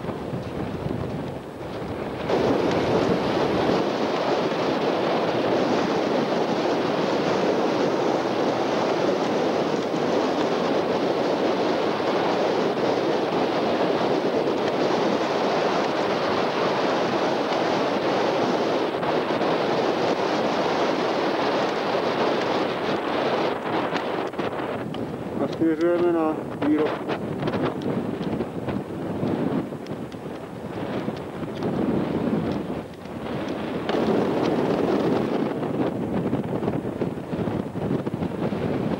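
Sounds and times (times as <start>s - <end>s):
wind blowing on microphone: 0.0s - 38.9s.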